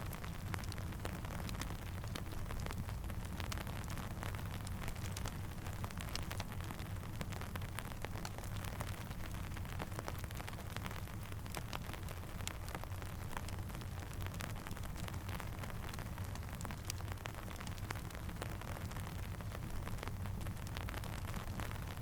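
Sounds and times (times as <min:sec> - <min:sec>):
campfire crackling: 0:00.0 - 0:22.0
steady rain: 0:00.0 - 0:22.0.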